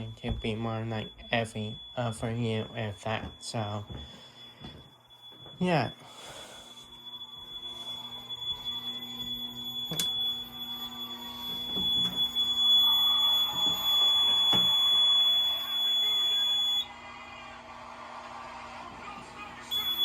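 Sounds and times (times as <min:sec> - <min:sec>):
fire alarm high-pitched tone: 0:00.0 - 0:17.0, 0:19.2 - 0:20.0.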